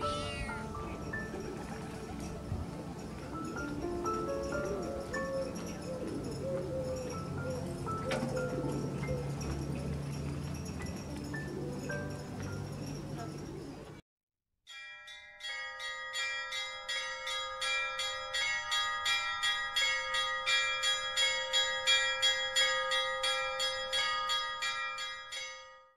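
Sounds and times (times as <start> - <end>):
church bells ringing: 0.0 - 13.9, 14.7 - 26.0.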